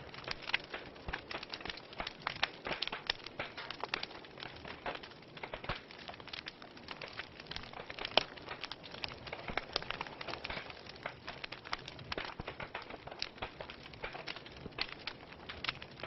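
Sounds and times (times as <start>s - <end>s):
logs crackling and popping: 0.0s - 16.0s
soft hiss of flames: 0.0s - 16.0s.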